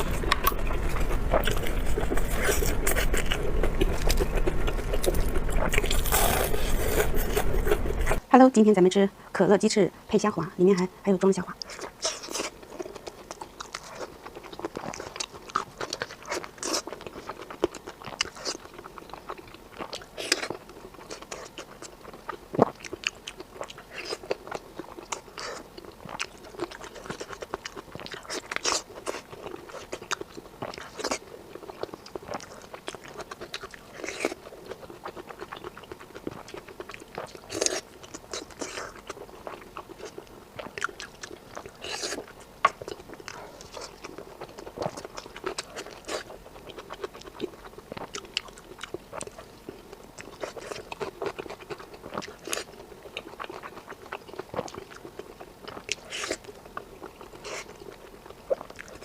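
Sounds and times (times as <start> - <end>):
person biting and chewing food: 0.0 - 8.2, 11.6 - 59.0.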